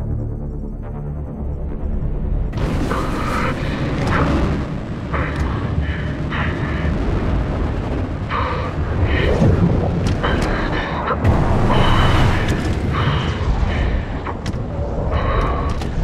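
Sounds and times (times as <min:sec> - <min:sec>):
jet engine roar: 0:02.5 - 0:16.0.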